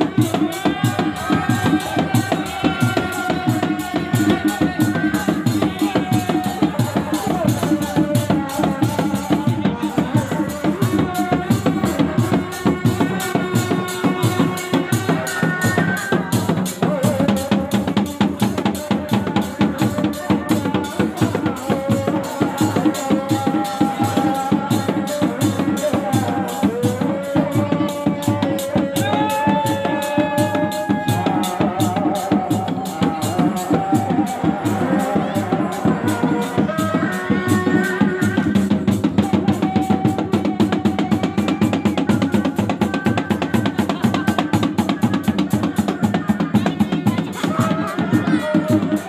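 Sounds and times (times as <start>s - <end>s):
drums beaten in a fast rhythm: 0.0s - 49.0s.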